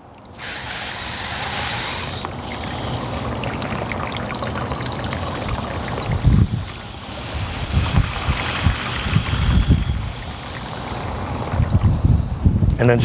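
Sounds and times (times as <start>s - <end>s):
water gurgling into a pipe: 0.0s - 12.5s.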